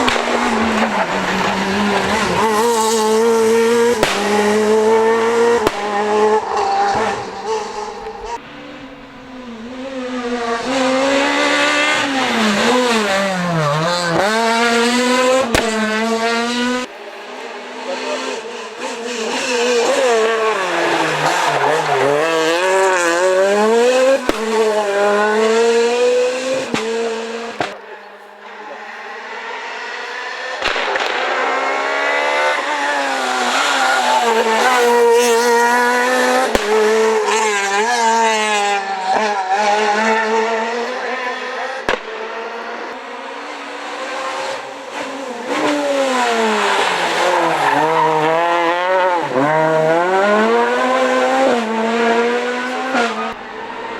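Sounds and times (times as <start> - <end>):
cars passing by: 0.0 - 53.9
rally car engines revving: 0.0 - 53.9.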